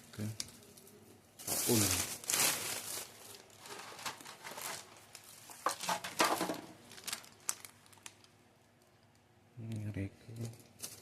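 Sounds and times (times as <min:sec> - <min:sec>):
plastic wrappers crinkling: 0:00.2 - 0:09.2, 0:10.3 - 0:11.0.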